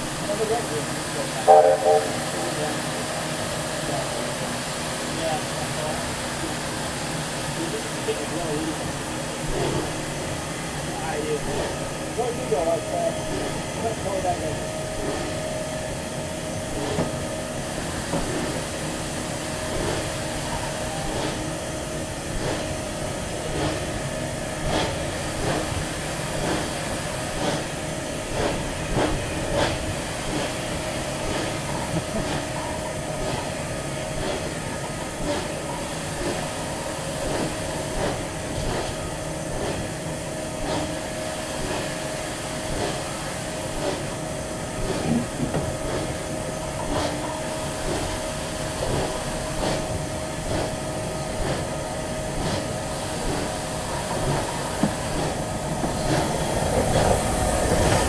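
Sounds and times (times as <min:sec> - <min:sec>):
steam train hiss and rumble: 0:00.0 - 0:58.0.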